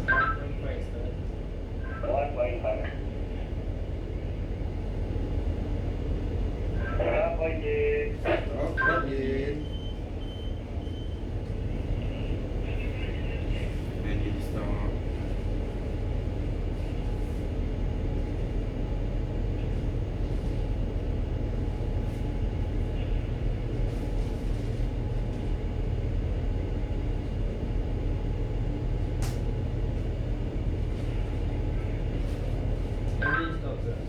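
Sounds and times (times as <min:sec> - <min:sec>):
ship machinery rumble and hum: 0:00.0 - 0:34.0.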